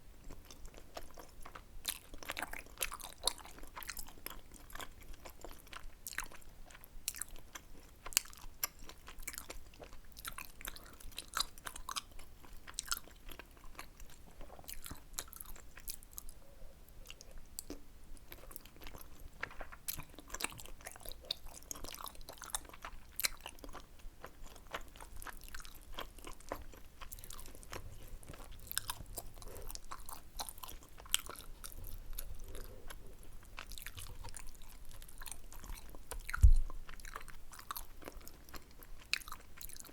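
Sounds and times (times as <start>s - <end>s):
person chewing wet mouth sounds: 0.2s - 19.2s, 19.9s - 39.9s.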